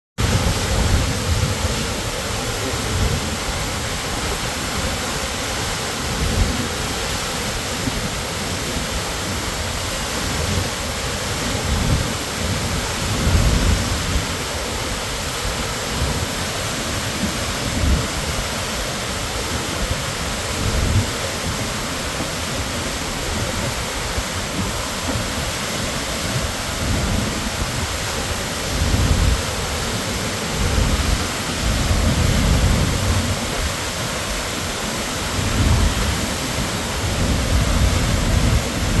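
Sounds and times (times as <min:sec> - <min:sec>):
waterfall rushing: 0:00.2 - 0:39.0.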